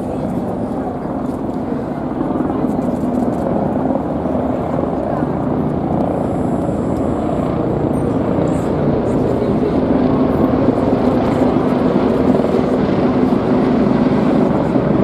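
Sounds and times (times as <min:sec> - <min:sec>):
helicopter flying past: 0:00.0 - 0:15.0.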